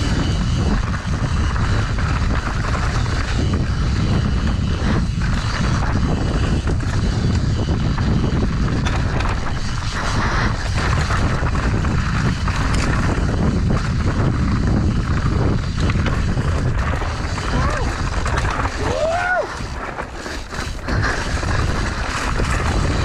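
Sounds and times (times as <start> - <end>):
bike clattering and knocking: 0.0 - 23.0
tyres rolling over dirt: 0.0 - 23.0
wind rushing over microphone: 0.0 - 23.0.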